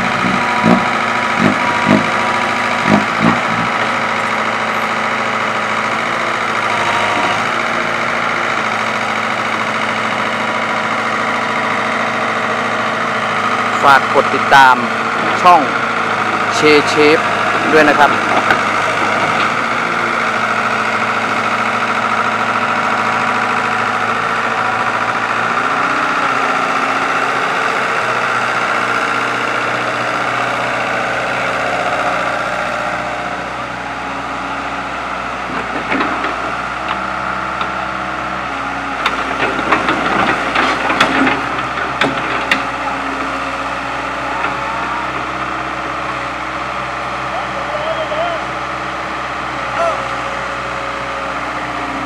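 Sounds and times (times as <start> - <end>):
engine whine: 0.0 - 52.0
excavator diesel engine running: 0.0 - 52.0.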